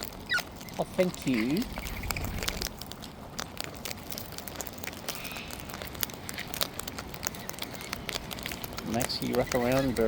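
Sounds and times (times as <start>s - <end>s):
birds' beaks and claws clicking: 0.0s - 10.0s.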